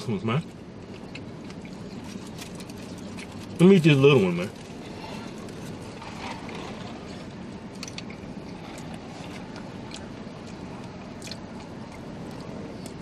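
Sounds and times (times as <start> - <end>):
steady low hum: 0.0 - 13.0
people chewing: 0.8 - 13.0.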